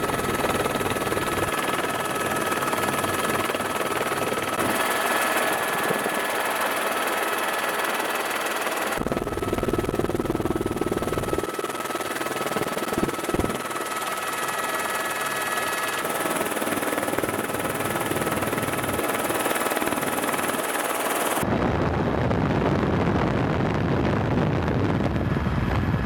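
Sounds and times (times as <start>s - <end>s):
aircraft engine drone: 0.0s - 23.8s.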